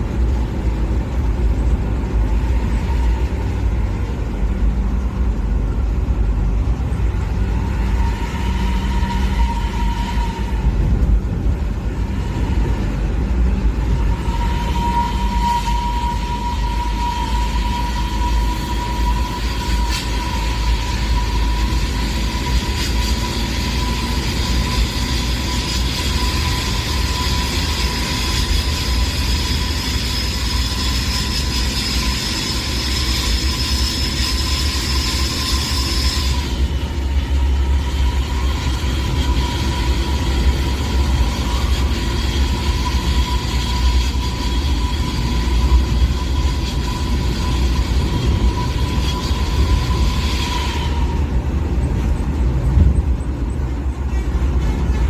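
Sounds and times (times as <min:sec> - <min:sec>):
high whine rising in pitch: 0:00.0 - 0:54.0
vehicle engine rumble: 0:00.0 - 0:55.0.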